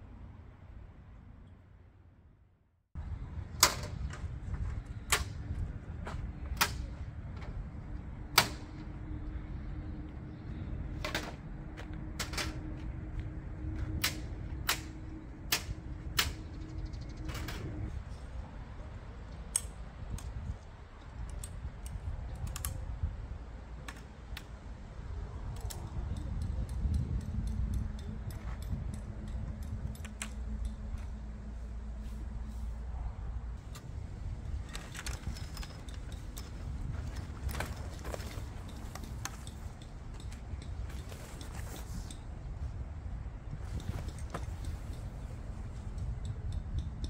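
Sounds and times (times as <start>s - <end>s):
steady low rumble: 0.0s - 47.0s.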